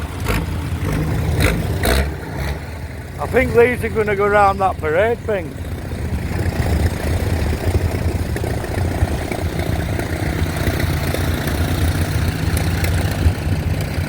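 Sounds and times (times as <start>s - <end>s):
tractor engines idling: 0.0s - 14.0s.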